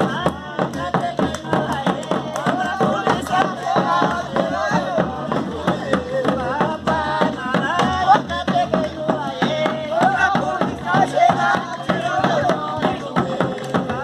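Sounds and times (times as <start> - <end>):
percussion beat: 0.0 - 14.0.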